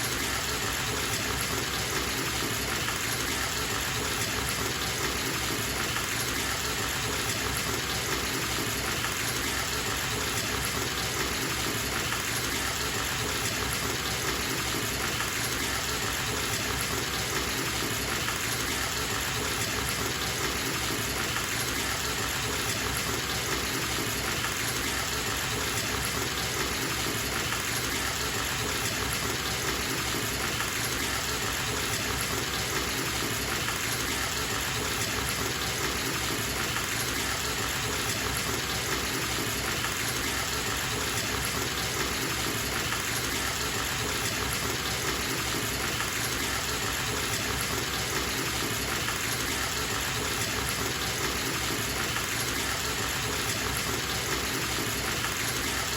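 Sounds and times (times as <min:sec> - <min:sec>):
water gushing into bathtub: 0:00.1 - 0:55.9.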